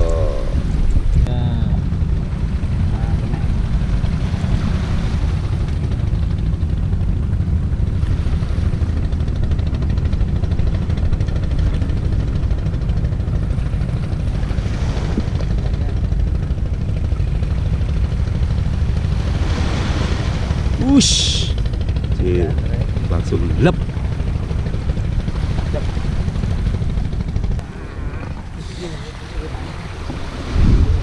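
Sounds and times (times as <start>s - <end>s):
engine idling: 0.0s - 19.4s, 20.3s - 29.8s.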